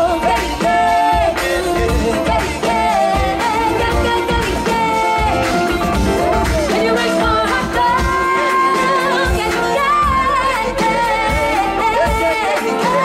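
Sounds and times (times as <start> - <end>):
drum kit: 0.0 - 13.0
guitar: 0.0 - 13.0
person singing: 0.0 - 13.0.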